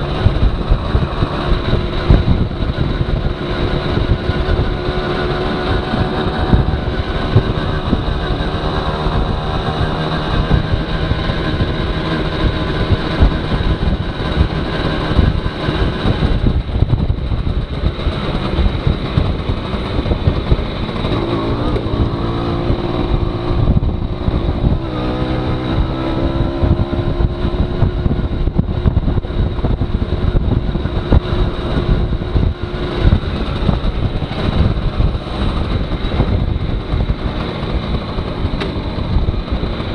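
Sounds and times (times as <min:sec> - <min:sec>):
moped two-stroke engine running: 0:00.0 - 0:39.9
wind noise on microphone: 0:00.0 - 0:39.9.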